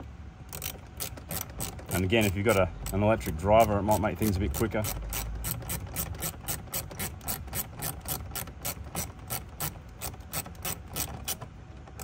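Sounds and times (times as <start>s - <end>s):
ratcheting screwdriver clicking: 0.5s - 12.0s.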